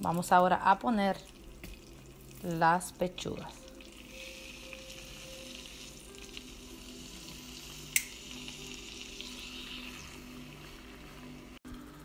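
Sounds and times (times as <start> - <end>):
chicken sizzling in a pan: 0.3 - 12.0.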